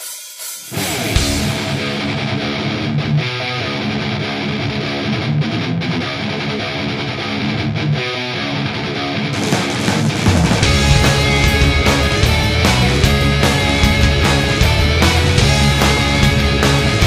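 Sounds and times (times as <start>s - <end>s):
rock guitar music: 0.7s - 17.0s.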